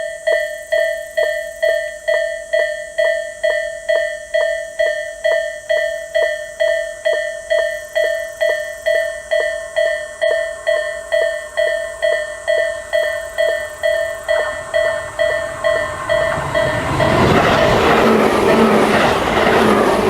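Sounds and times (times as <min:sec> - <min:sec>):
level crossing warning bell ringing: 0:00.0 - 0:20.0.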